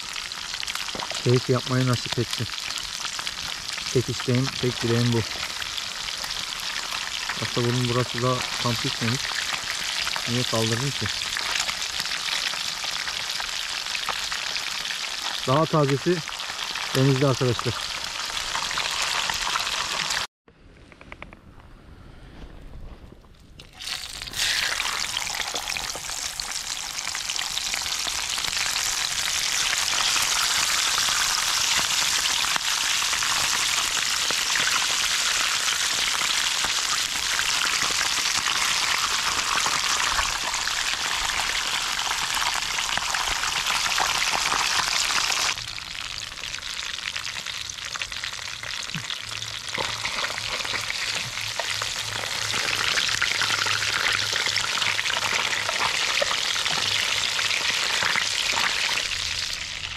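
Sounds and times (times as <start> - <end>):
fish sizzling in hot oil: 0.0 - 20.3, 23.7 - 59.9.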